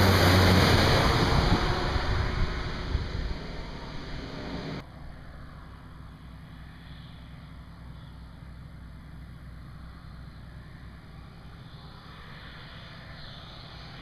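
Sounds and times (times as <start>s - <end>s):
distant plane engine drone: 0.0s - 14.0s.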